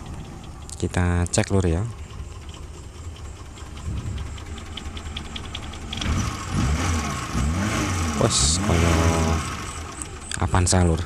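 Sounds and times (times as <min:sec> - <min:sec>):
car engine running with ticking: 0:00.0 - 0:11.0.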